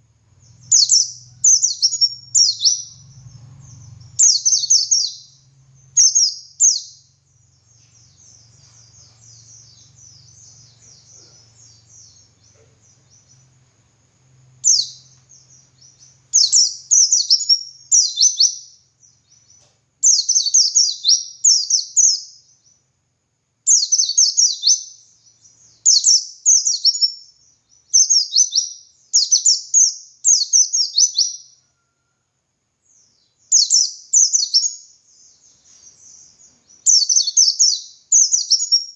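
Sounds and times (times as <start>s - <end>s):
faint low hum: 0.0s - 38.7s
bird twittering: 0.4s - 13.5s, 14.6s - 22.8s, 23.7s - 32.0s, 33.5s - 38.9s.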